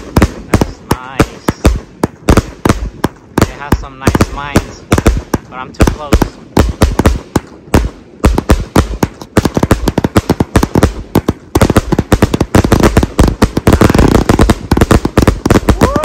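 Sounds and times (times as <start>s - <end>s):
fireworks cake bangs: 0.0s - 16.0s.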